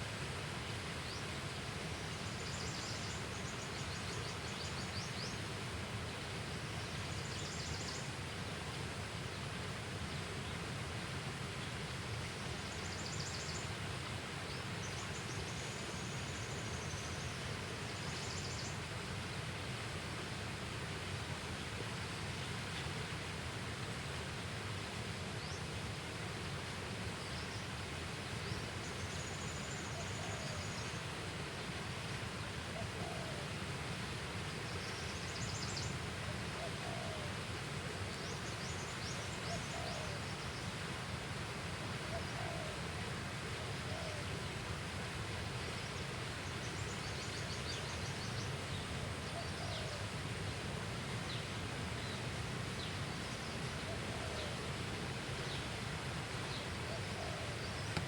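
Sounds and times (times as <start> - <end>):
outdoor ambient noise: 0.0 - 58.0.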